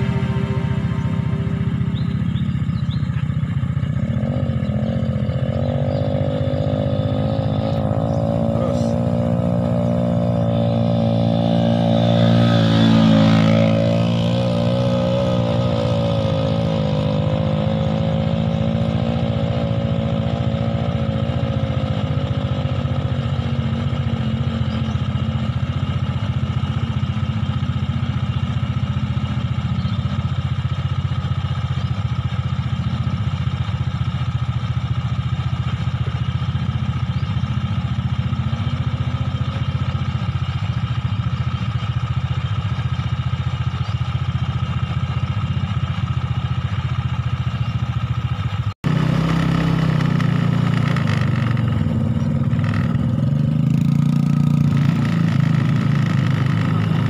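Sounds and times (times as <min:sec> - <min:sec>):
motorcycle engine droning: 0:00.0 - 0:57.0
motorcycle passing by: 0:00.0 - 0:57.0.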